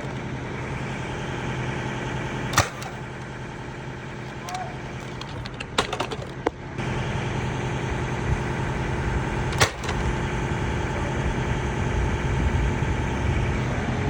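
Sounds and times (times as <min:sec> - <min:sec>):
engine-like hum: 0:00.0 - 0:14.0.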